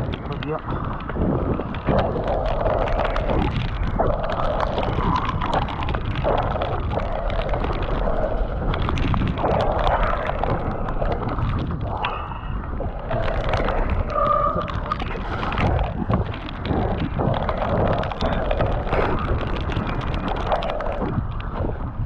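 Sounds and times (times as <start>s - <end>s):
bike rattling and knocking: 0.0s - 22.0s
wind buffeting microphone: 0.0s - 22.0s.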